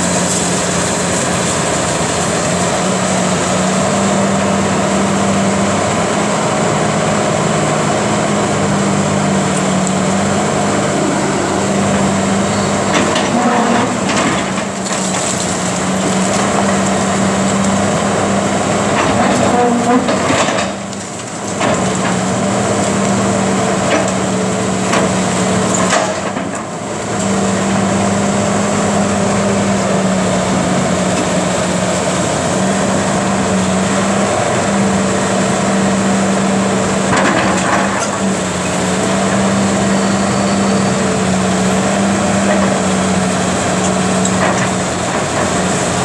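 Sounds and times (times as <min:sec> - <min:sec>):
excavator diesel engine humming: 0:00.0 - 0:46.0.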